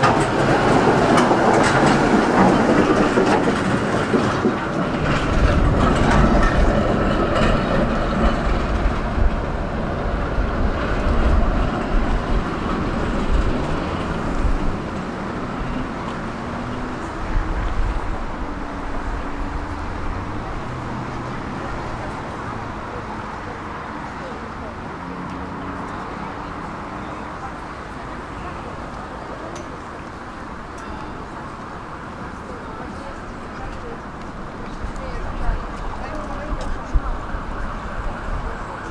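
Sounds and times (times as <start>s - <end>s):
tram wheels clattering on rails: 0.0s - 38.9s.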